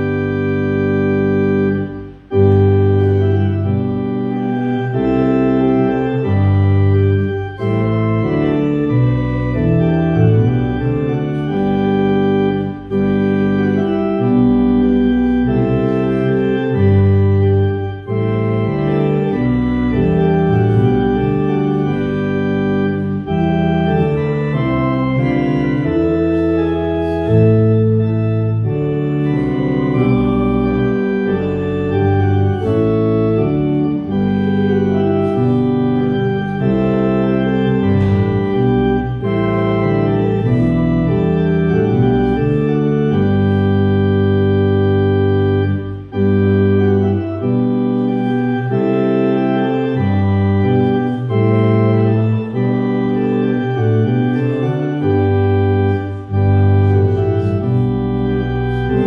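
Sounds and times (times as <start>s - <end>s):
organ playing chords: 0.0s - 59.0s.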